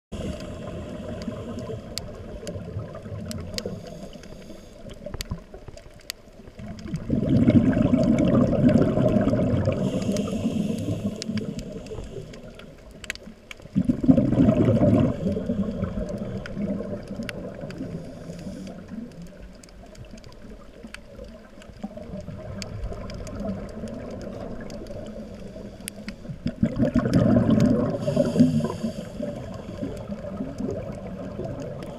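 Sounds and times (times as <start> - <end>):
diver's bubbles gurgling underwater: 0.2 - 4.2, 4.8 - 31.9.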